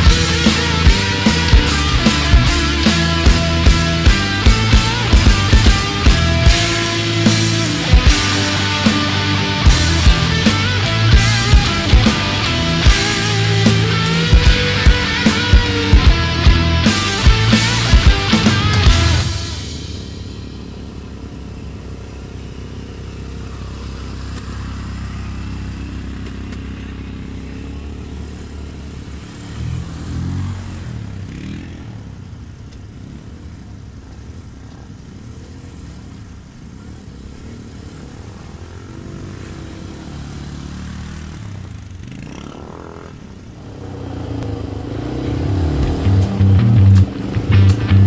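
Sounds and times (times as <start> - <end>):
quad bike engines: 0.0 - 48.0.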